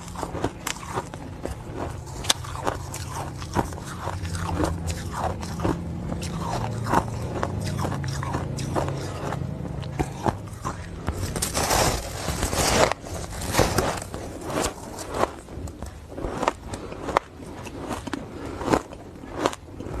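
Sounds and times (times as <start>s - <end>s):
ice crunching between teeth: 0.0s - 20.0s.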